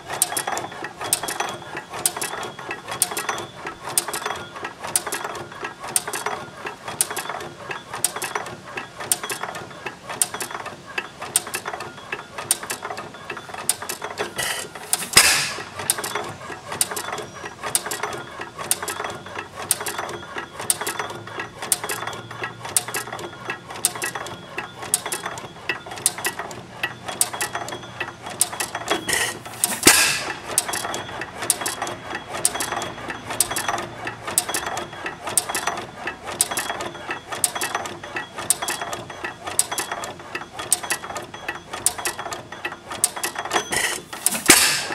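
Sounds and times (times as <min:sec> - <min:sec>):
engine mechanism clicking: 0:00.0 - 0:44.9.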